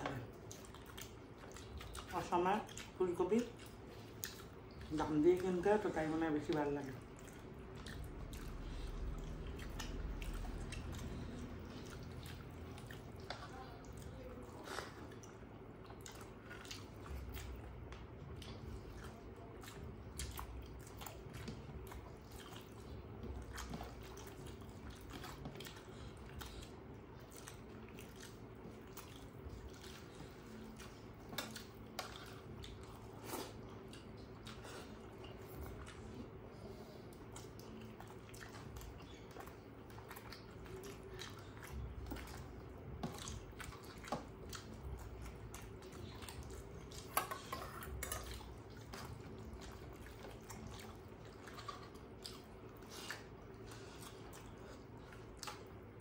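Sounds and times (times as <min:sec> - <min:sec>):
faint steady hum: 0:00.0 - 0:56.0
squishy food mixing by hand: 0:00.0 - 0:56.0
wet chewing and lip smacks: 0:00.0 - 0:56.0.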